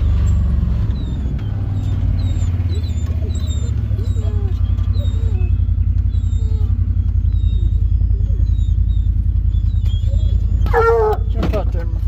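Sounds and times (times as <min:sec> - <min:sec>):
faint wavering calls: 0:00.0 - 0:11.4
vehicle engine and road rumble: 0:00.0 - 0:12.0.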